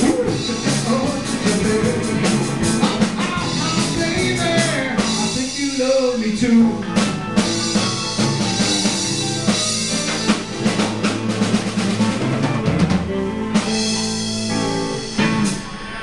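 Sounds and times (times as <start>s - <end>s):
heavy drumming: 0.0s - 16.0s
rock band playing live: 0.0s - 16.0s.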